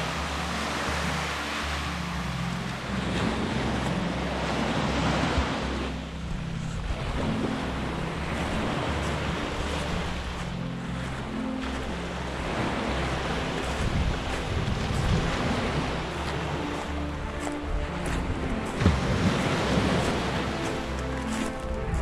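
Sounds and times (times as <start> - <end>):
waves washing up a sandy shore: 0.0 - 22.0.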